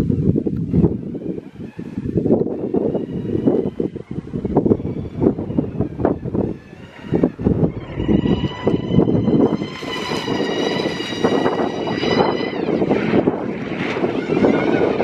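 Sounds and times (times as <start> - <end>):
electric drivetrain whine: 0.0 - 15.0.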